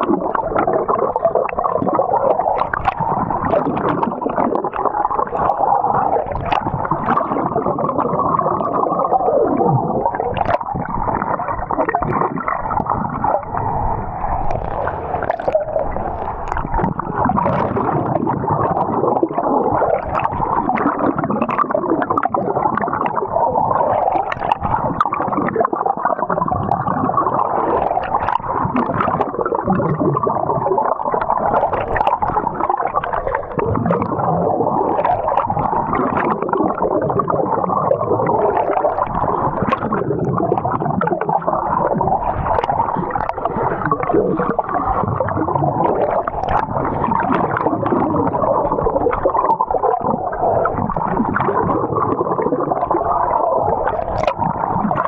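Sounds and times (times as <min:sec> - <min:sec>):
water sloshing and gurgling: 0:00.0 - 0:55.0.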